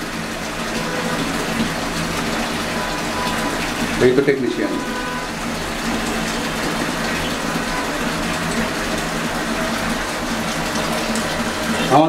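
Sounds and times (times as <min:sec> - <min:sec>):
water rushing into washing machine: 0:00.0 - 0:12.0.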